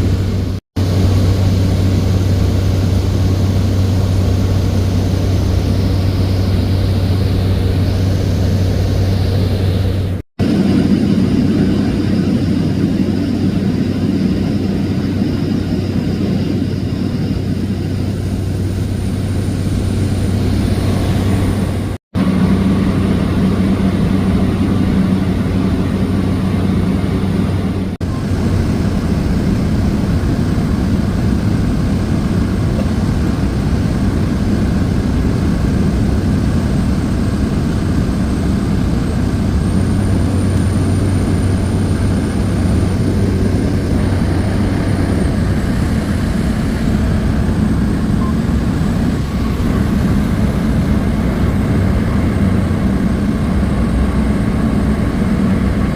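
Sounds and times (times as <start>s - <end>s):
turboprop droning in cabin: 0.0s - 55.9s.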